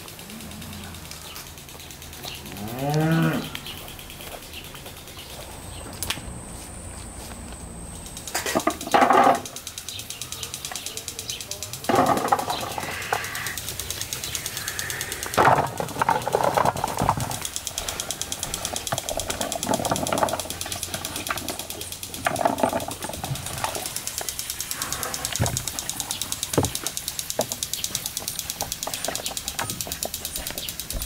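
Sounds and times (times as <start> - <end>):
fast pulsing hiss: 0.0 - 31.0.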